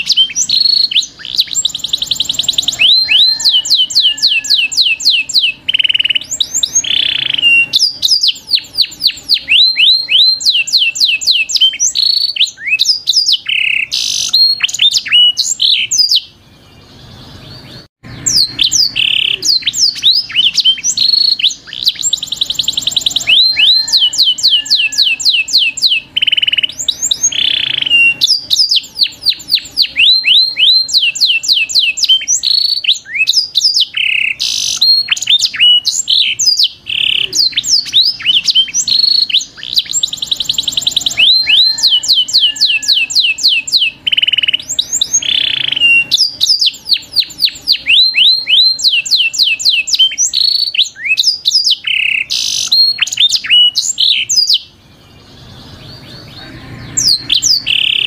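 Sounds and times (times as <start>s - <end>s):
fast buzzy bird trill: 0.0s - 58.0s
harsh bird calls: 0.0s - 58.0s
songbirds chirping: 0.0s - 58.0s.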